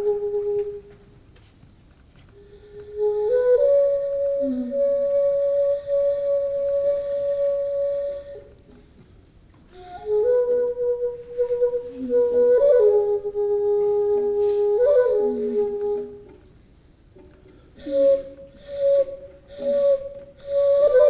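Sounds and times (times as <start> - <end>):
solo flute playing: 0.0 - 1.1, 2.3 - 9.0, 9.7 - 16.6, 17.8 - 21.0.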